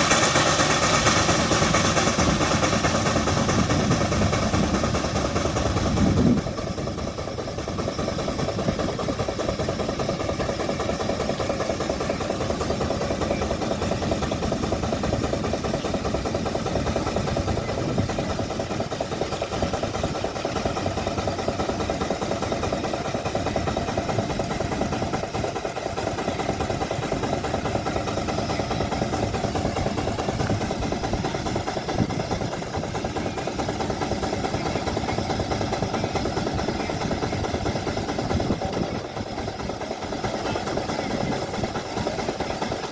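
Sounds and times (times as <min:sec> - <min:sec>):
steam engine exhaust beat: 0:00.0 - 0:42.9.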